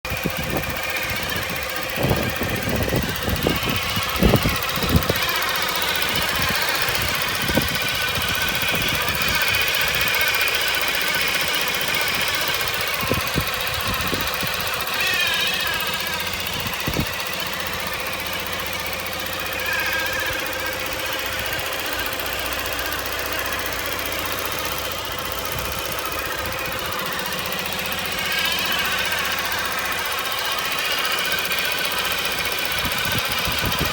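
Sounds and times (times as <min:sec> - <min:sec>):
car engine running: 0:00.0 - 0:33.9
screeching grinding noise: 0:00.1 - 0:33.9.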